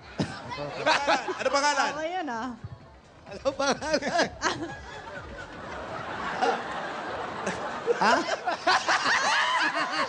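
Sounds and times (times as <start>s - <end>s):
crowd laughing and chattering: 0.0s - 10.0s.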